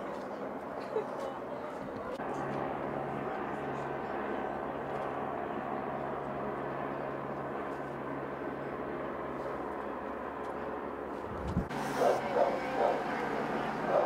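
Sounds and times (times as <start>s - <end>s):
engine drone: 2.2s - 14.0s.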